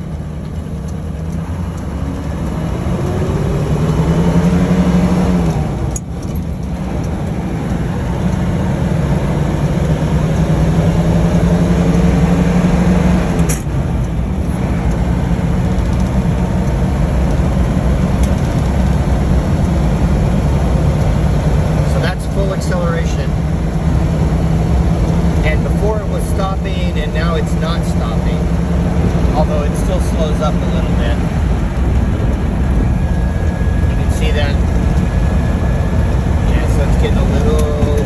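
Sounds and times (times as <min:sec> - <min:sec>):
car engine accelerating through gears: 0:00.0 - 0:38.0
road and wind noise: 0:00.0 - 0:38.0.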